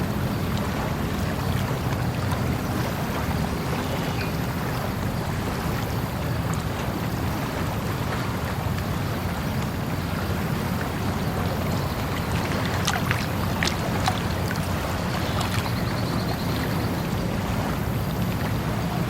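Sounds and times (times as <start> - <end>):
river water rushing: 0.0 - 19.0
water splashes and drips: 0.0 - 19.0.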